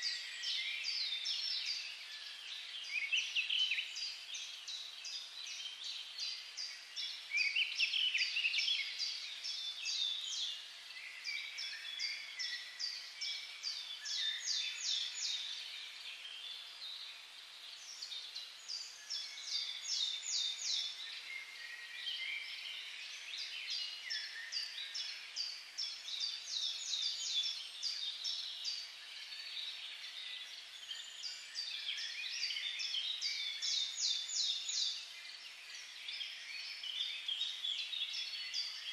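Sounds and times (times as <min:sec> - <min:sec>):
birds calling in chorus: 0:00.0 - 0:38.9.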